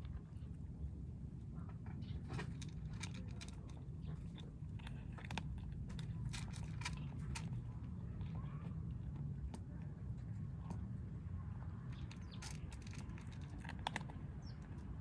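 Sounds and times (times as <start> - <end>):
kittens chewing and crunching food: 0.0 - 15.0.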